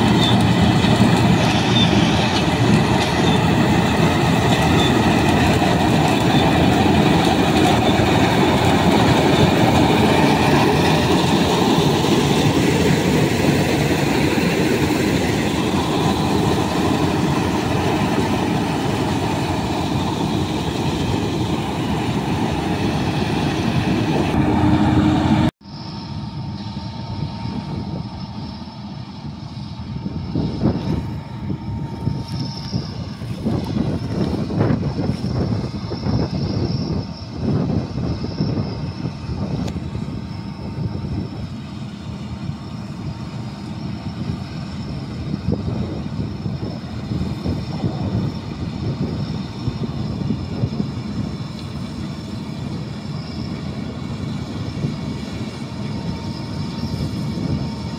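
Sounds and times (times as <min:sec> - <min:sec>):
combine harvester running: 0:00.0 - 0:57.9
distant combine harvester: 0:00.0 - 0:57.9.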